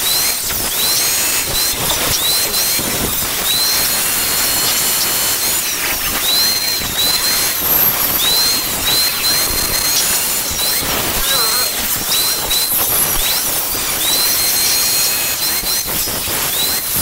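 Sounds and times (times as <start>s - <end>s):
angle grinder cutting steel: 0.0s - 17.0s.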